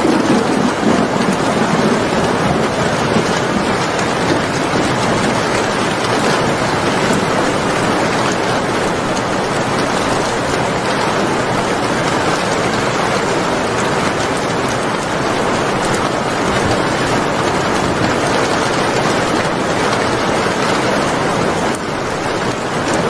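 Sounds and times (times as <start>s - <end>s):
heavy rain: 0.0s - 23.0s
raindrop ticks: 0.0s - 23.0s.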